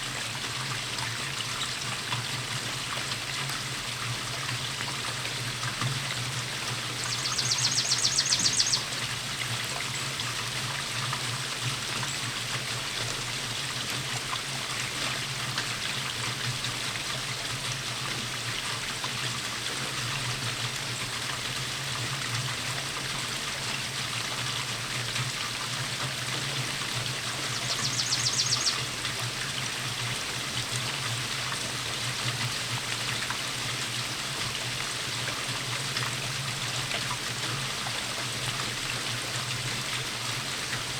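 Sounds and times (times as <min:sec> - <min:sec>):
steady rainfall: 0:00.0 - 0:08.2, 0:08.8 - 0:40.9.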